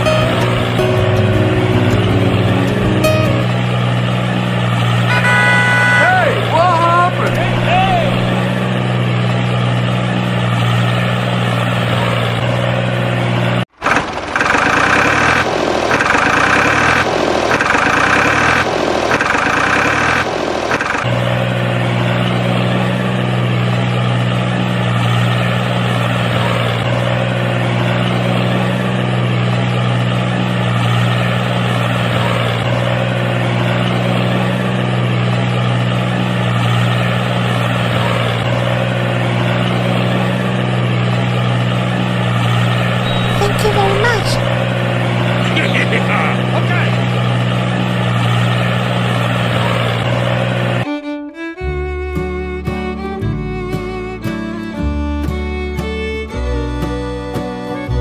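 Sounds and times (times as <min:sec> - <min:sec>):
tractor engine running: 0:00.0 - 0:51.0
pulsing louder engine sound: 0:00.0 - 0:51.6.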